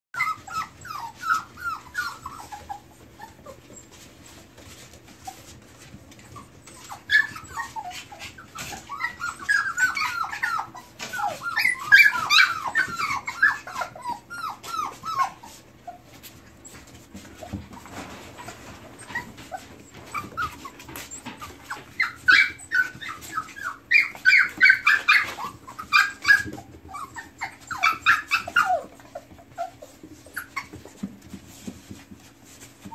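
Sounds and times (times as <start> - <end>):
puppies whining: 0.1 - 32.9.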